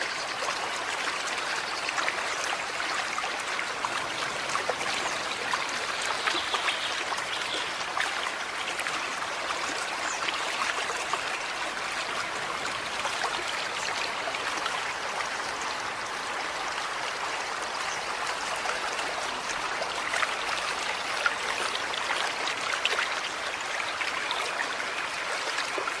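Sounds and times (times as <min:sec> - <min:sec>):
stream running over stones: 0:00.0 - 0:26.0.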